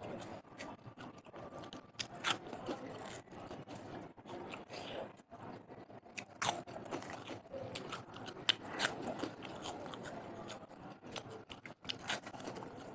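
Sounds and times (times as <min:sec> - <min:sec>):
chewing crunchy food: 0:00.0 - 0:12.9.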